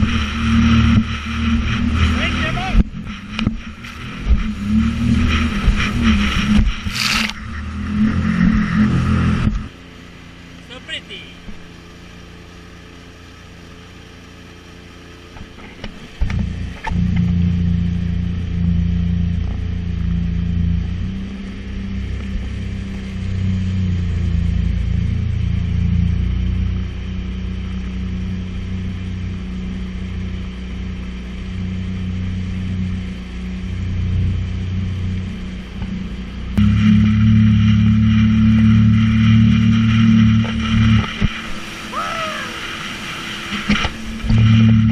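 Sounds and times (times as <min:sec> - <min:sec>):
watercraft engine running: 0:00.0 - 0:44.9.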